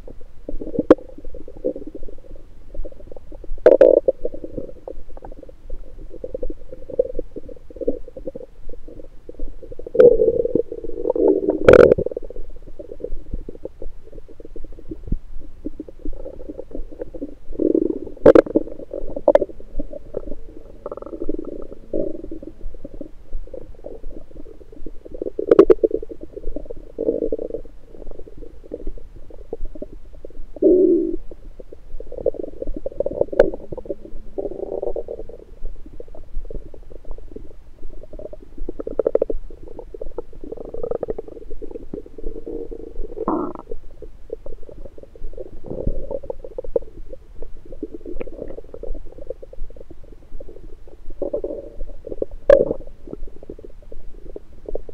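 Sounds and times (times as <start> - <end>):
stomach gurgles and rumbles: 0.0 - 54.9.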